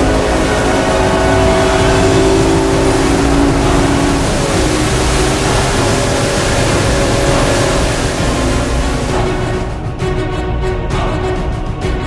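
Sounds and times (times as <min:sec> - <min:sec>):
motorboat engine drone: 0:00.0 - 0:10.0
wind rushing: 0:00.0 - 0:10.1
rough water rushing: 0:00.0 - 0:11.6.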